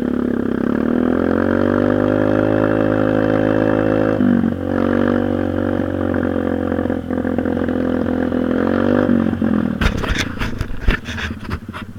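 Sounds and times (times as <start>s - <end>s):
dirt bike engine droning: 0.0s - 11.9s.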